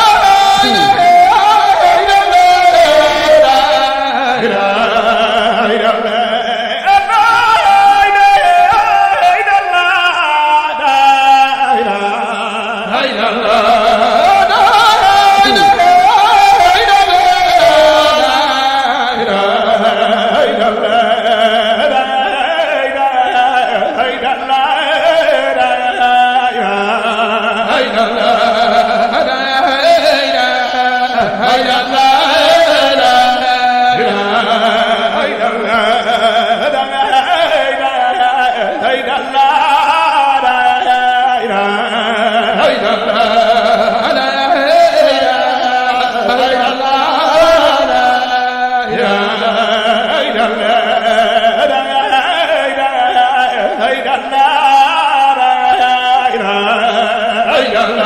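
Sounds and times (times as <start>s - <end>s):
man singing a devotional chant: 0.0s - 58.0s.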